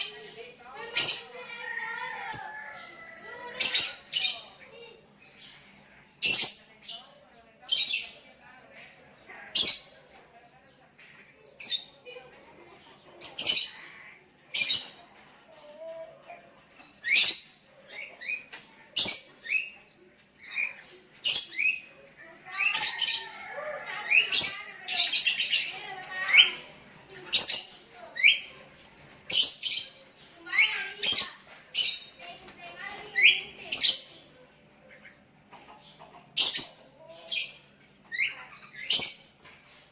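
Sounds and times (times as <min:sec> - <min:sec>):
birds calling back and forth: 0:00.0 - 0:39.9.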